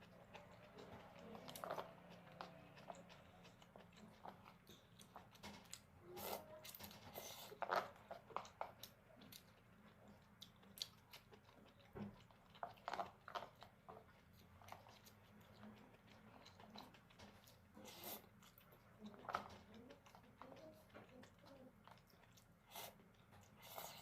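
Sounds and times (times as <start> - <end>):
person chewing noodles: 0.0 - 24.0.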